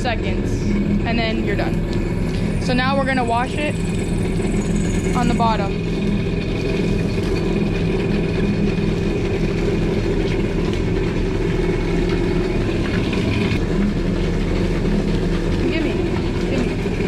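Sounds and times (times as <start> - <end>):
jet ski engine idling: 0.0 - 17.0.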